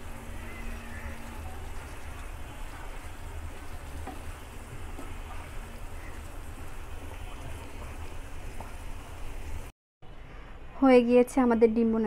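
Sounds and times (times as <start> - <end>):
curry sizzling in frying pan: 0.0 - 9.7.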